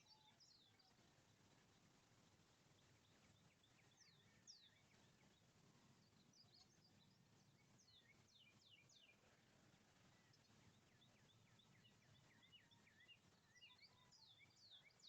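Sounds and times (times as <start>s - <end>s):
faint birdsong: 0.0s - 15.0s
low steady background hum: 0.0s - 15.0s.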